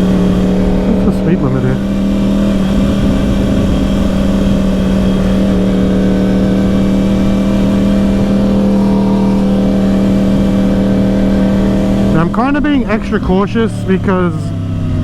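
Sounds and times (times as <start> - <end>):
motorcycle engine cruising: 0.0 - 15.0
wind and road rumble: 0.0 - 15.0.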